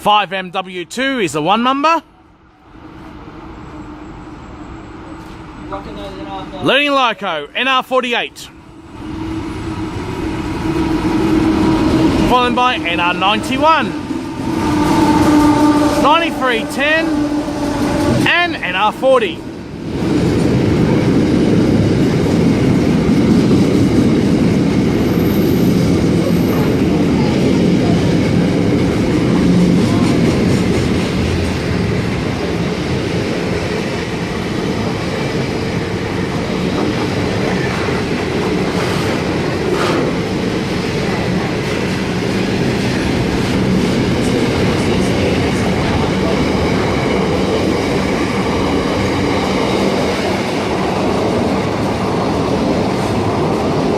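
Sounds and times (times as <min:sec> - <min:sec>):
freight train wheels rumbling: 0:08.4 - 0:53.9.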